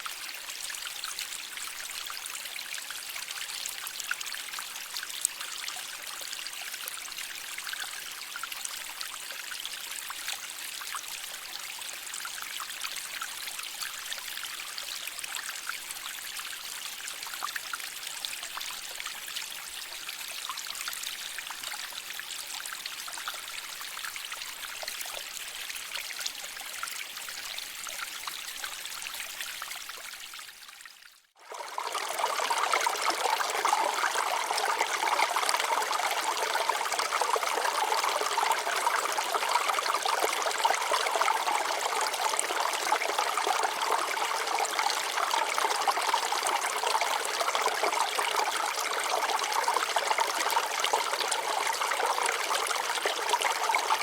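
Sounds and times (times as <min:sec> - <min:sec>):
stream flowing over rocks: 0:00.0 - 0:30.8, 0:31.4 - 0:54.0.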